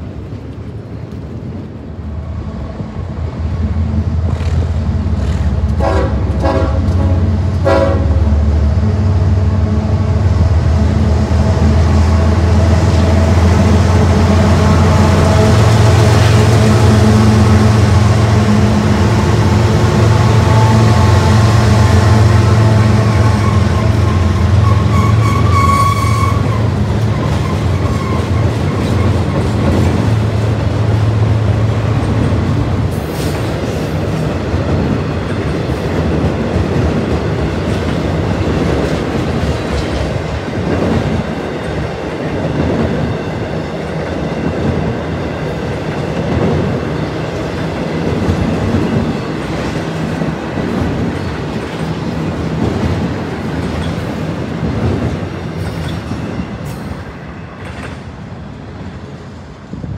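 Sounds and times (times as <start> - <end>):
diesel locomotive drone: 0.0 - 59.9.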